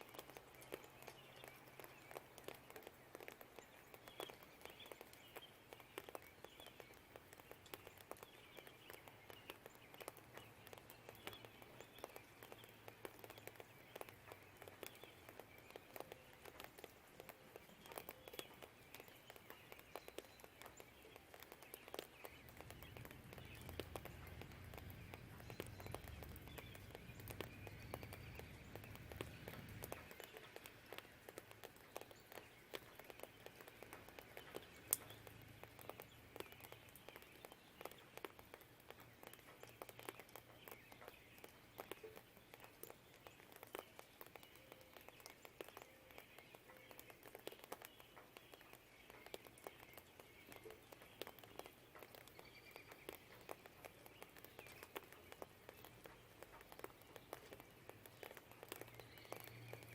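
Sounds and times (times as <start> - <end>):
distant birdsong: 0.0 - 59.9
raindrop ticks: 0.0 - 59.9
sharp water drip: 0.0 - 59.9.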